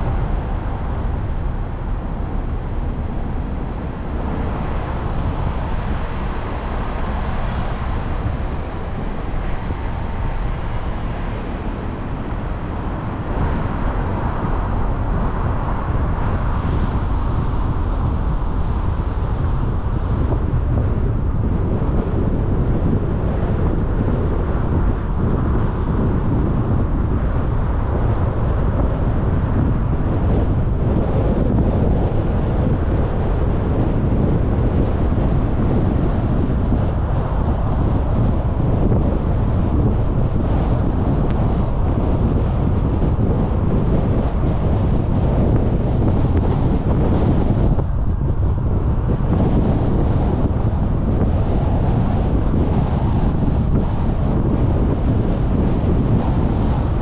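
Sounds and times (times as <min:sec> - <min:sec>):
car tyre and wind noise: 0:00.0 - 0:57.0.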